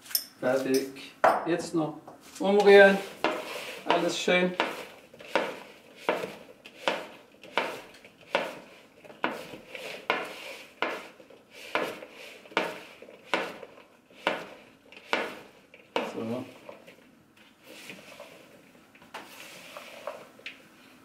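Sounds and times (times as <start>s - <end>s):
wet scrape of vegetables: 2.7s - 18.6s, 19.2s - 20.4s.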